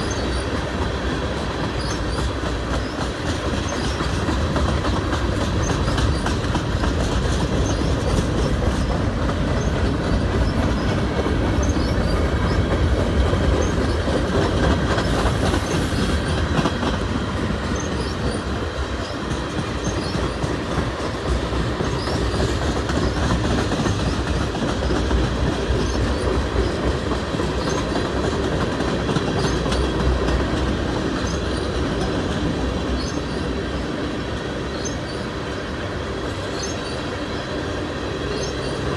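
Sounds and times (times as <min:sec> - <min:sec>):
freight train rumbling past: 0:00.0 - 0:38.9
wheels clacking over rail joints: 0:00.0 - 0:38.9.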